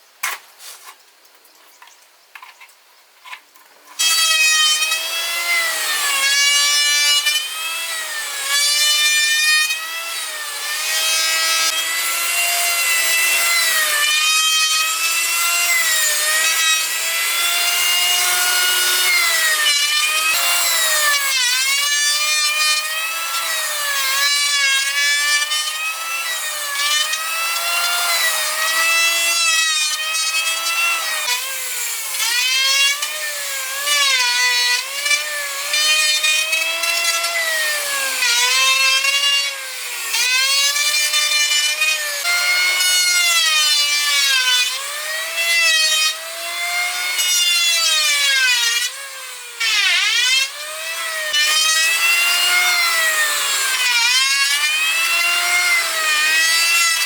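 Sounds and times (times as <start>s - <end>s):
power tool cutting wood: 3.9s - 57.0s.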